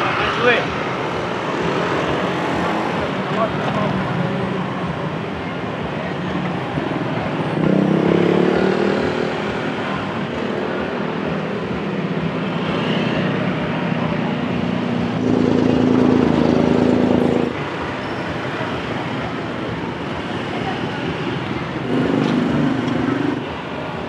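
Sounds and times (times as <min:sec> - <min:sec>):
motorbike engines passing: 0:00.0 - 0:24.0
street traffic: 0:00.0 - 0:24.0.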